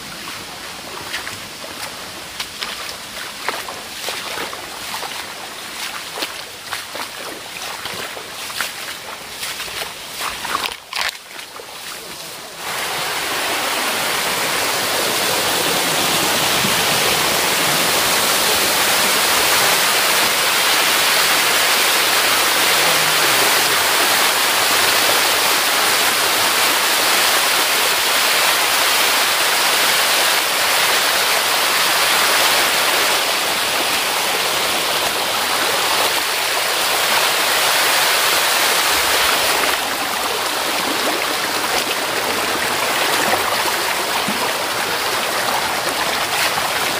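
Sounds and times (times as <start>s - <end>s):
forest stream rushing: 0.0s - 46.9s.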